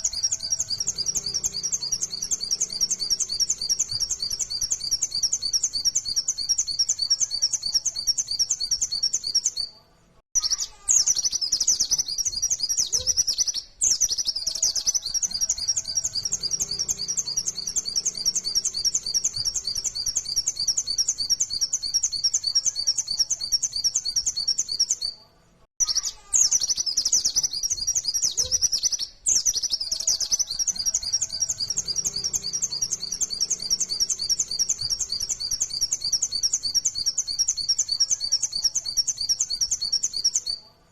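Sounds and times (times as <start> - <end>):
bird singing rapid high chirps: 0.0 - 9.8, 10.4 - 25.2, 25.8 - 40.7.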